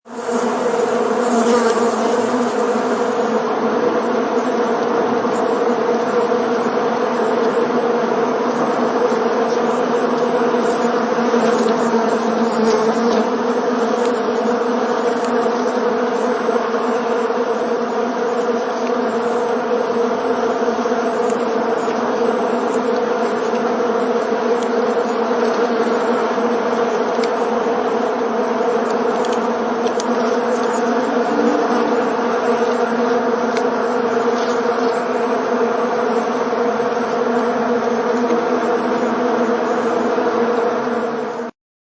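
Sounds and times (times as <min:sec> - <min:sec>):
honeybees buzzing: 0:00.1 - 0:41.5.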